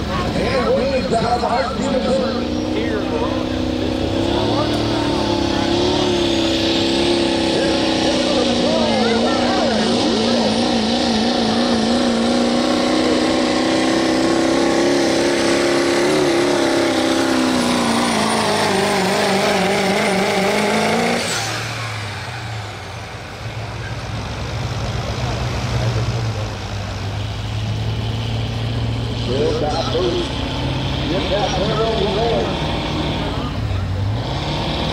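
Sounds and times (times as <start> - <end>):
diesel truck engine at full throttle: 0.0 - 34.9.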